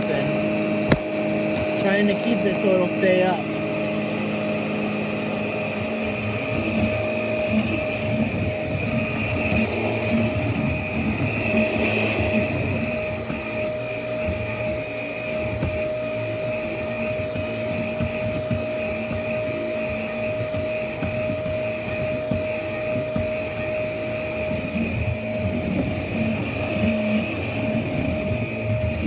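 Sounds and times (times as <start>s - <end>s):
vacuum cleaner motor whine: 0.0s - 29.0s.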